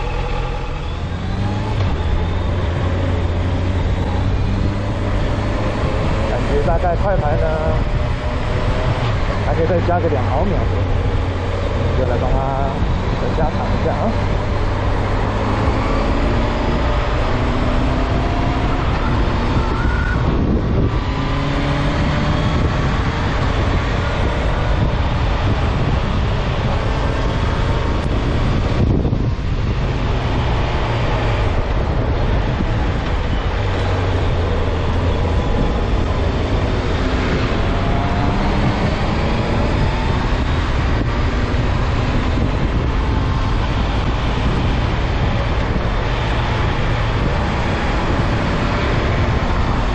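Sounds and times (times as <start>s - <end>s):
motorcycle engine accelerating: 0.0s - 49.9s
wind rush on microphone: 0.0s - 49.9s.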